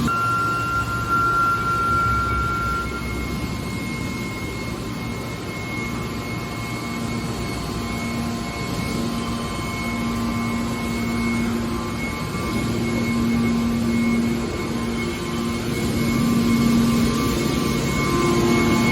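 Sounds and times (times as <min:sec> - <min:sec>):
hydraulic baler mechanical hum: 0:00.0 - 0:18.9.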